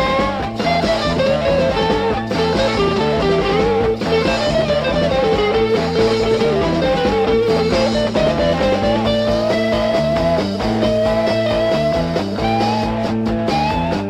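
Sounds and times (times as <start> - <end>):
electric lead guitar bending notes: 0.0 - 14.0
rock band playing: 0.0 - 14.0.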